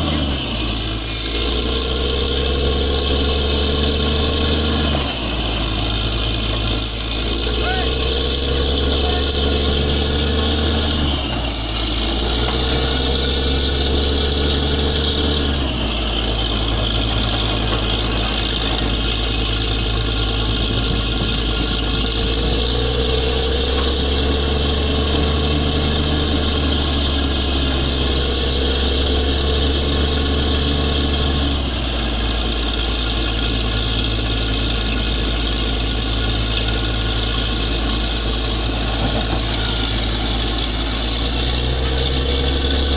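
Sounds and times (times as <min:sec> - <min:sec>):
drilling rig engine droning: 0:00.0 - 0:42.9.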